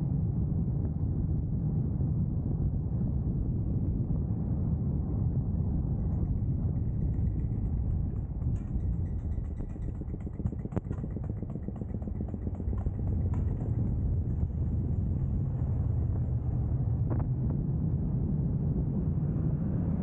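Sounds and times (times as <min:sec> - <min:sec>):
vehicle driving on road: 0:03.5 - 0:20.0.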